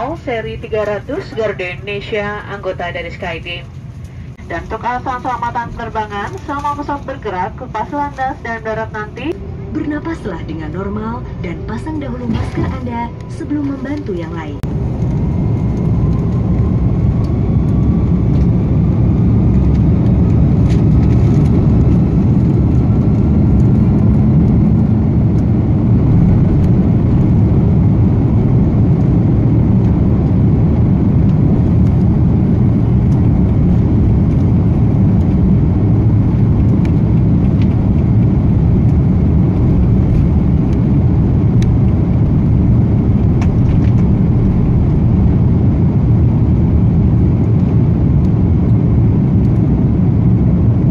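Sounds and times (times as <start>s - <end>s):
jet engine roar in cabin: 0.0s - 50.9s.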